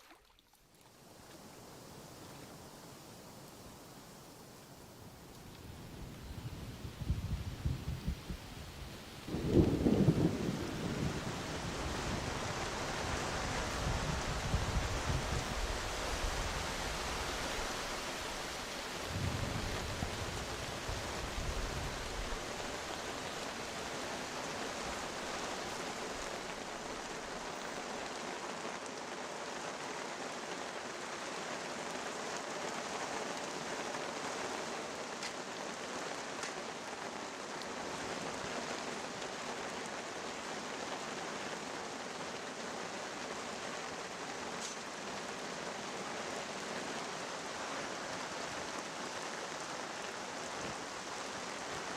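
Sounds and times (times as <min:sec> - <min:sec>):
steady rain hiss: 0:00.8 - 0:51.9.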